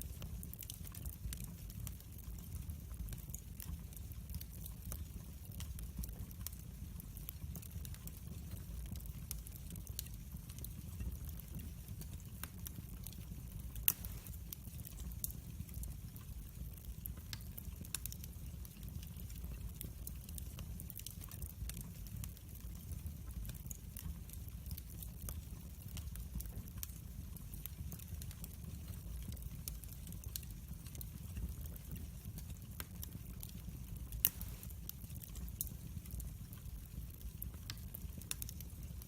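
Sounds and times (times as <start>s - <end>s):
log fire crackling: 0.0s - 39.0s
low fire rumble: 0.0s - 39.0s.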